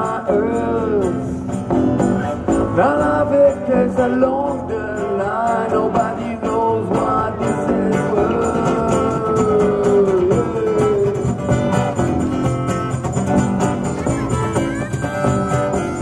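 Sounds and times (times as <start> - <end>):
band strumming and beat: 0.0 - 16.0.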